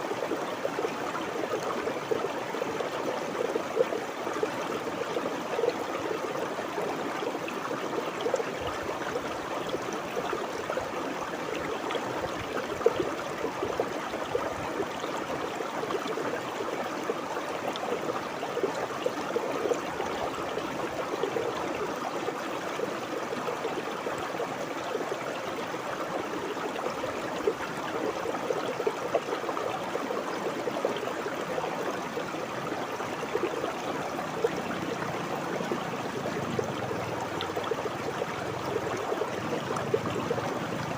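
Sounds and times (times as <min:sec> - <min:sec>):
river babbling over stones: 0:00.0 - 0:40.9
small water splashes: 0:00.0 - 0:40.9.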